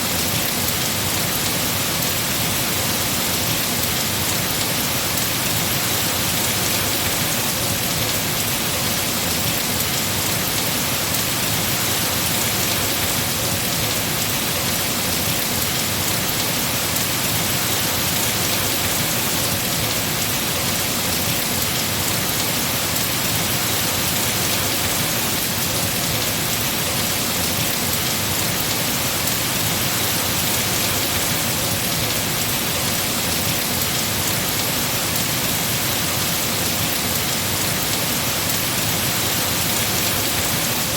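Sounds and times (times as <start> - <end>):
heavy rain on trees: 0.0 - 40.9.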